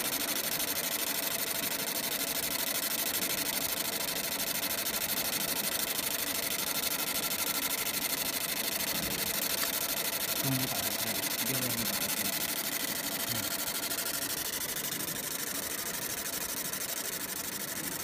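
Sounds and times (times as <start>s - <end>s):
laser engraver pulsing hiss: 0.0s - 18.0s.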